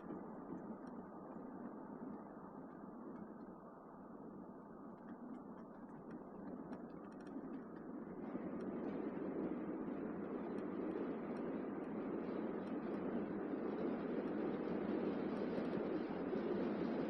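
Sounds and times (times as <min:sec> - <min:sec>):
faint light ticks: 0:00.0 - 0:17.0
muffled tyre and road noise: 0:00.0 - 0:17.0.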